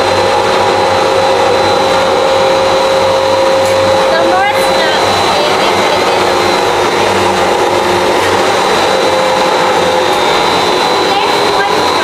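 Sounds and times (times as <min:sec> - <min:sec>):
faint high whine: 0:00.0 - 0:12.0
pellet mill mechanical whir: 0:00.0 - 0:12.0.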